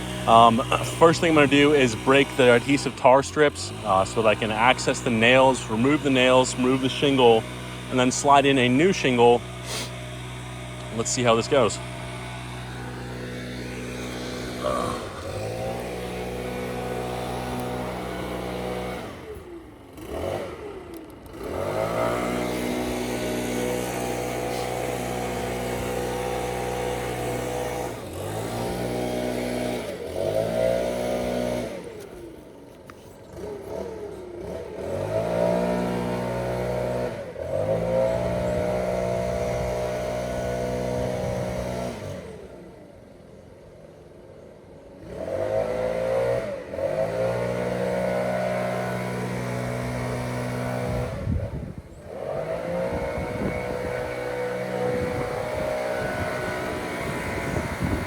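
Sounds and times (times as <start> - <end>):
engine revving: 0.0 - 42.8, 45.0 - 58.0.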